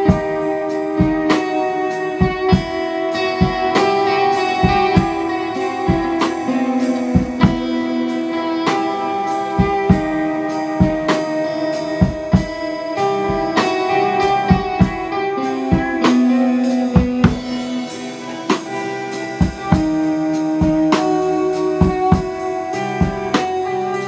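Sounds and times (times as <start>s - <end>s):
drum kit beat: 0.0s - 24.0s
electric guitar: 0.0s - 24.0s.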